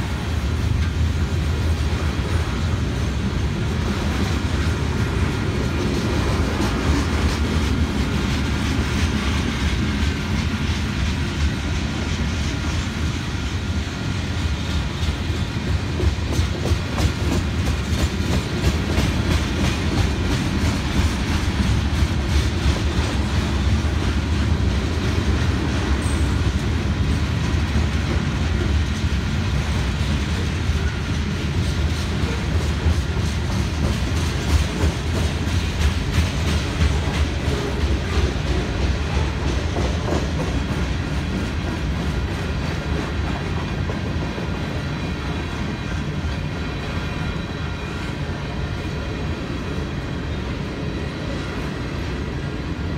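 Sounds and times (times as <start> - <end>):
freight train rumble: 0.0 - 52.9.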